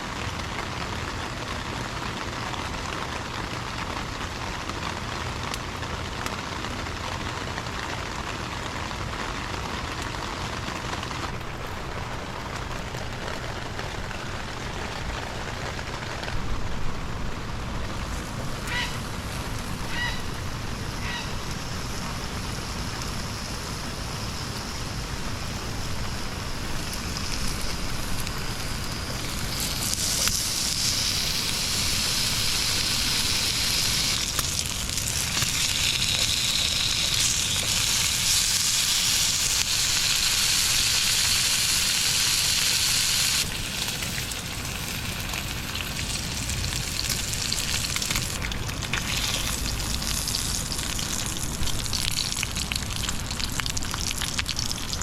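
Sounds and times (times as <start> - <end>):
steady hissing sizzling noise: 0.0 - 55.0.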